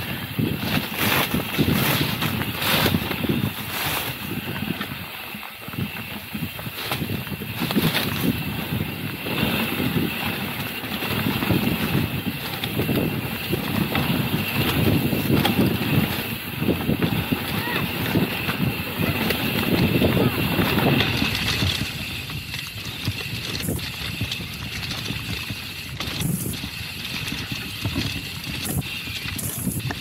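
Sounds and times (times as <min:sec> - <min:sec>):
bike rattling on rough ground: 0:00.0 - 0:30.0
wind buffeting microphone: 0:00.0 - 0:30.0.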